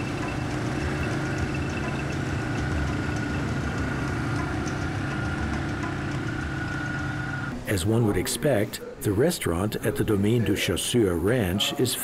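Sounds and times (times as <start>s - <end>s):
quad bike engines droning: 0.0s - 11.6s.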